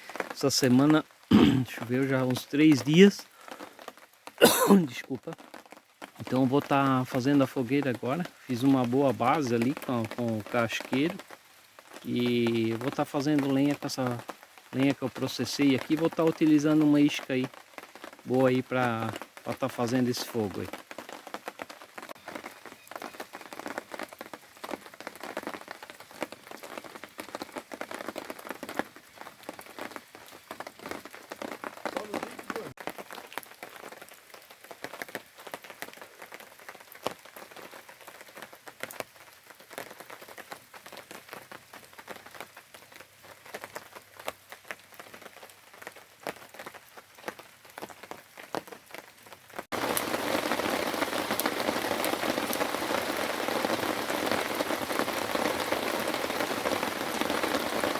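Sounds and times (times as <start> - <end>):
rain on a plastic tarp: 0.0 - 57.9.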